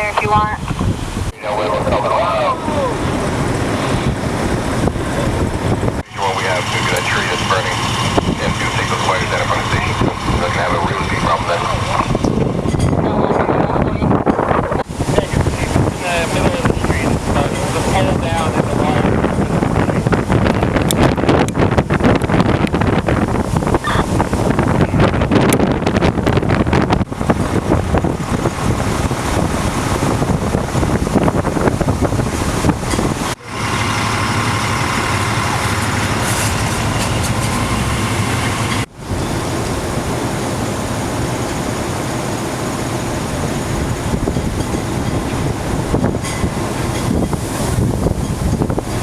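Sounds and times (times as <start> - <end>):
wind on the microphone: 0.0 - 33.4, 43.2 - 49.0
vehicle engine rumbling: 0.0 - 49.0.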